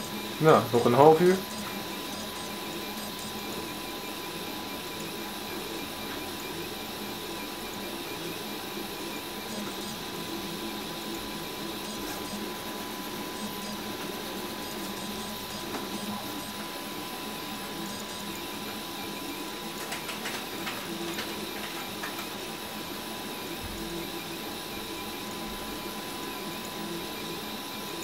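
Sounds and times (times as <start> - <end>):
stepper motors whirring: 0.0 - 22.4.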